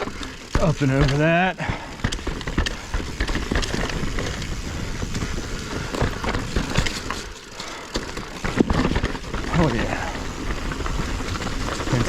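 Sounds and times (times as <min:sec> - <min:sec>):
bike clicks and rattles: 0:00.0 - 0:12.0
bike tyres crunching over rocks: 0:00.0 - 0:12.0
low wind rumble: 0:01.5 - 0:12.0.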